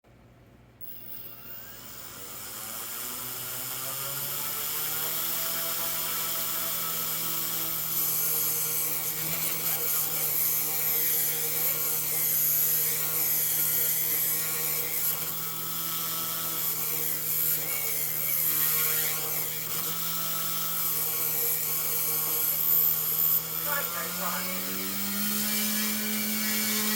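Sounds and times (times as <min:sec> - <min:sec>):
electric helicopter whine: 0:00.8 - 0:26.9.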